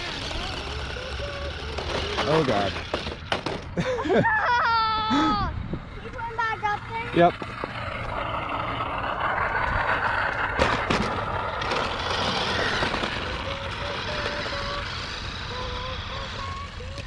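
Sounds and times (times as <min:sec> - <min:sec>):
electric motor whining: 0:00.0 - 0:03.6, 0:05.0 - 0:17.0
rubber tyres rolling on concrete: 0:00.0 - 0:04.2, 0:05.8 - 0:17.0.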